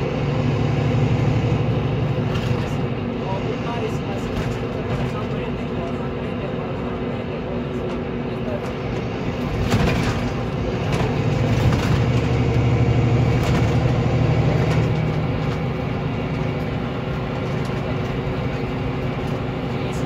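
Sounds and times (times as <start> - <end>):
diesel engine hum: 0.0 - 20.0
tyre and road noise: 0.0 - 20.0.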